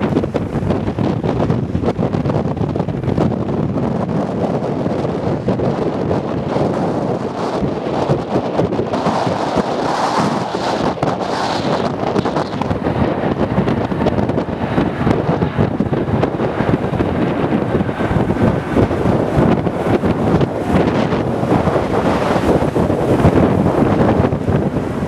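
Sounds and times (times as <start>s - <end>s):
jet airliner rumble: 0.0s - 25.0s
wind buffeting microphone: 0.0s - 25.0s.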